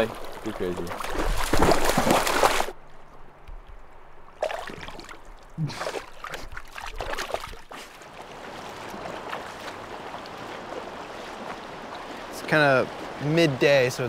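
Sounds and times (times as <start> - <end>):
stream rushing: 0.0 - 14.0
water splashing: 0.0 - 14.0.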